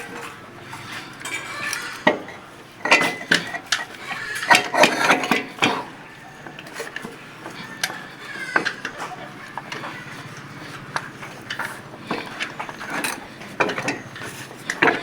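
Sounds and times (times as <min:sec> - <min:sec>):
metal tools clinking on engine: 0:00.0 - 0:15.0.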